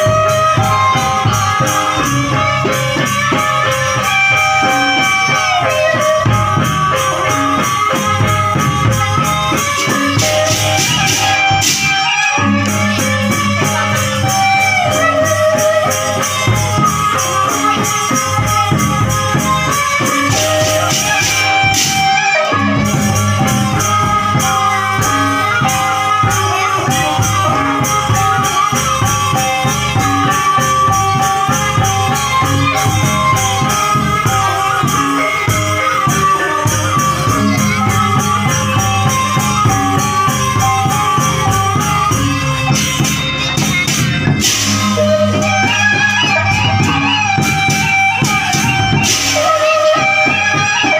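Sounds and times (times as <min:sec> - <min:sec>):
bamboo flute melody: 0:00.0 - 0:50.9
percussion: 0:00.0 - 0:50.9
shaken rattling beat: 0:00.0 - 0:50.9.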